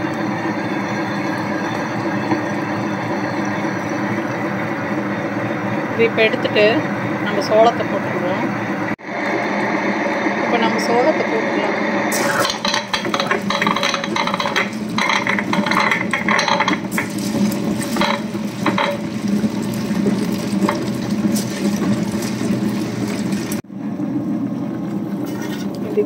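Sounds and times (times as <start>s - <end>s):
wet grinder humming: 0.0s - 23.7s.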